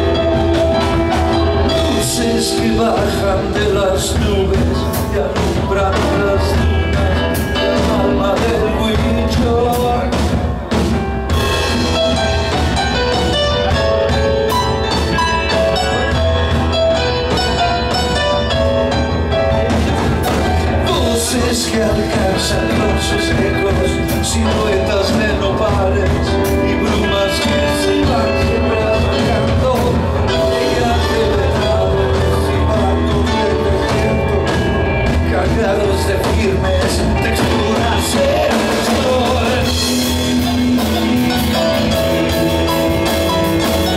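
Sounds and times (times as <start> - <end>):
held keyboard notes: 0.0 - 43.9
rock band playing: 0.0 - 43.9.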